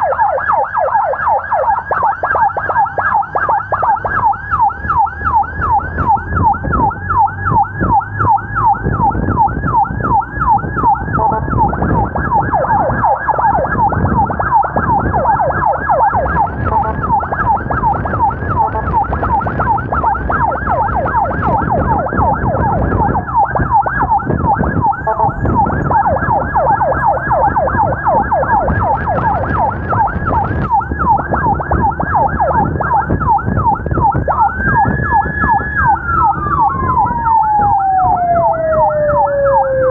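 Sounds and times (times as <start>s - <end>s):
emergency sirens yelping: 0.0s - 39.9s
engine and road noise: 0.0s - 39.9s.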